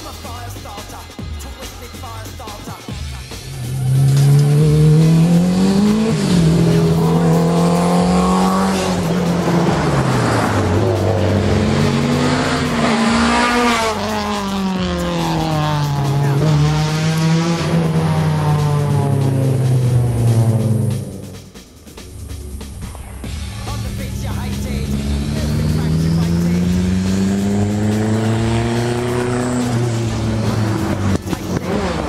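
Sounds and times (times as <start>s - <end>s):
race car engine revving: 2.9s - 32.0s.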